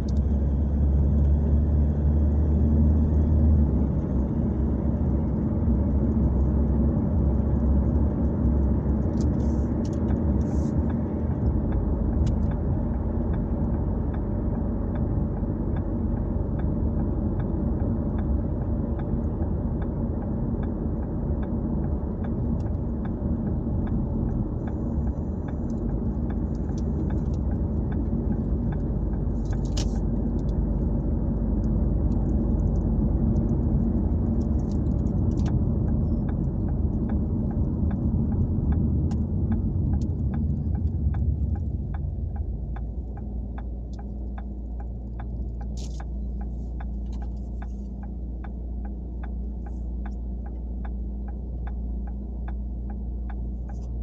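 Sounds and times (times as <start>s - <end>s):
car driving rumble inside cabin: 0.0s - 54.0s.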